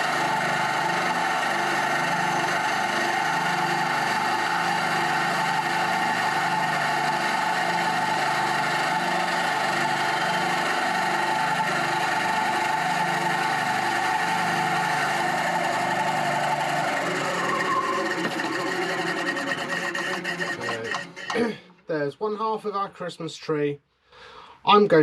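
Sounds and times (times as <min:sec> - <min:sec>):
bandsaw cutting wood: 0:00.0 - 0:21.5.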